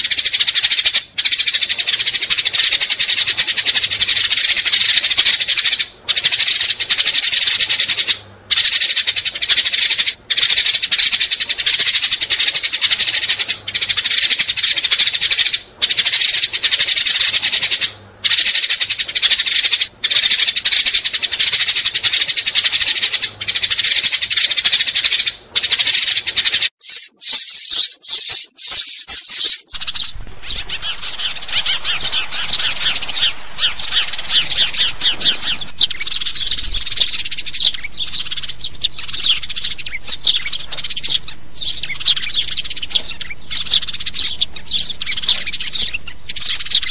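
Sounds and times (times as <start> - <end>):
sparrows chirping: 0.0 - 46.9.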